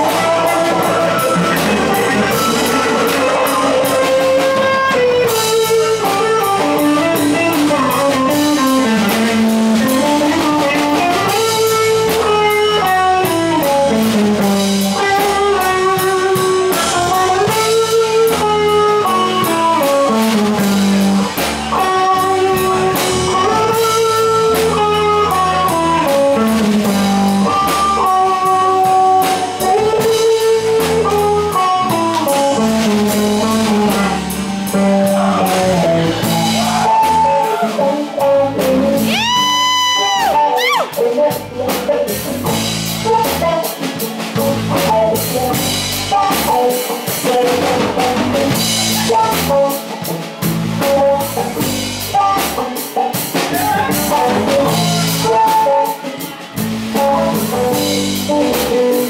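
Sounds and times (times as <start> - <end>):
bass guitar: 0.0 - 59.0
drum kit: 0.0 - 59.0
electric guitar lead melody: 0.0 - 59.0.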